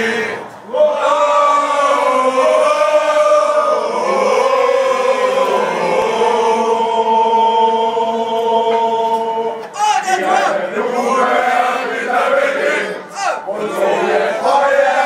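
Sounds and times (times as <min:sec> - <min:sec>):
crowd singing in unison: 0:00.0 - 0:15.0.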